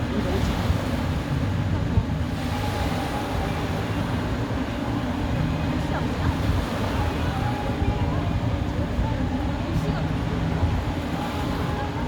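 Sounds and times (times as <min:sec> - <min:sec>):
surf at the shore: 0:00.0 - 0:12.0
wind on the microphone: 0:00.0 - 0:12.0.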